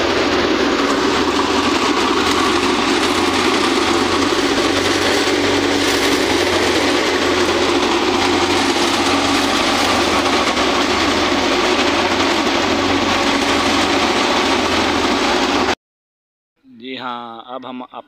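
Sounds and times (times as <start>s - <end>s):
thresher running: 0.0s - 15.8s.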